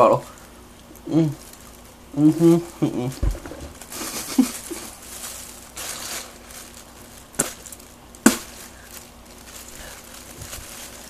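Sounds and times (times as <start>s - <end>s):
plastic bag crinkling: 0.1s - 11.0s.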